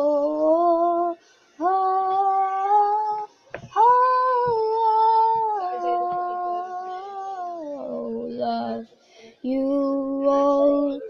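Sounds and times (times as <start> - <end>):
girl singing unaccompanied: 0.0 - 11.0.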